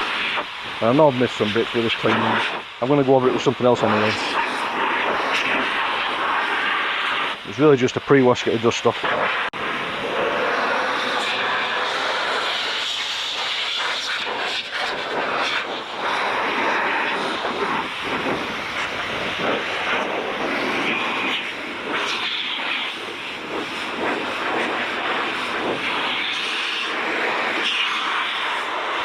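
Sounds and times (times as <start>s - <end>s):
blower rushing air: 0.0s - 29.0s.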